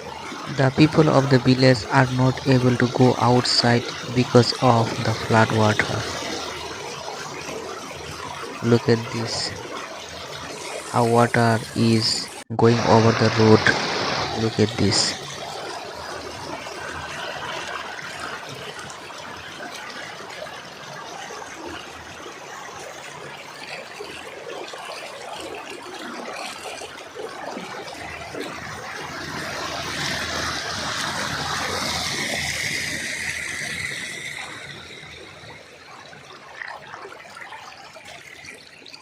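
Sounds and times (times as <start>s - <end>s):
flood water rushing and trickling: 0.0s - 39.0s.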